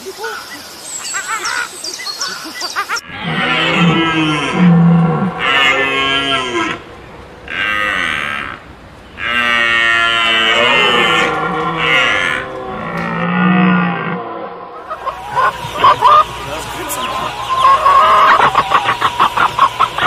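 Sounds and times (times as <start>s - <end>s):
low moo-like animal calls: 3.0s - 8.6s, 9.2s - 20.0s.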